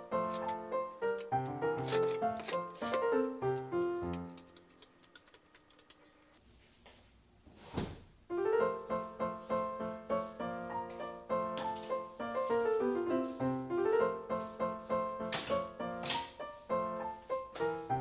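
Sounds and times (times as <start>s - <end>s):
gentle piano melody: 0.0s - 4.7s, 8.3s - 18.0s.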